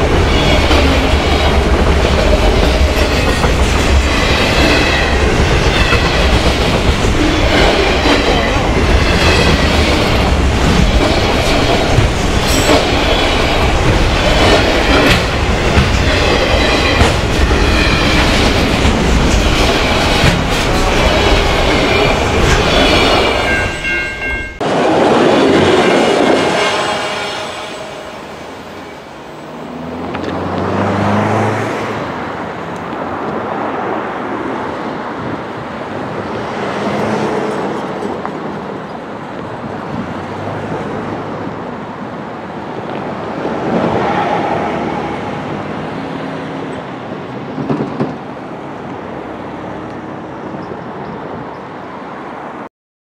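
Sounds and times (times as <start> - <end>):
freight train rumbling: 0.0 - 52.7.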